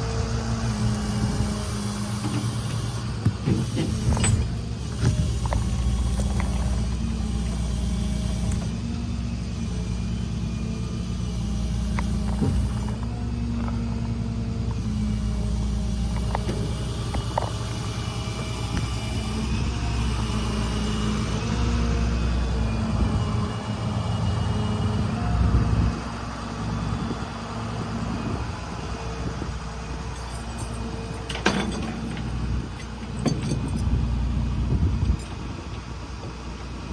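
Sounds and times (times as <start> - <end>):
truck engine rumbling: 0.0 - 36.9.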